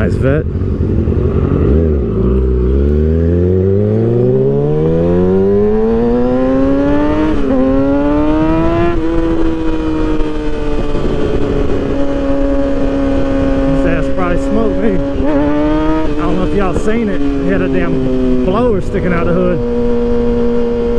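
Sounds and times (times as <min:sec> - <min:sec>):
motorcycle engine accelerating: 0:00.0 - 0:20.9.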